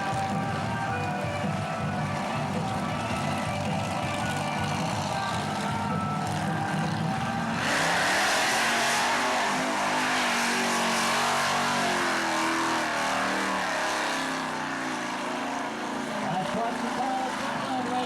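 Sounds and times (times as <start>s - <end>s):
truck engine revving hard: 2.1s - 18.0s.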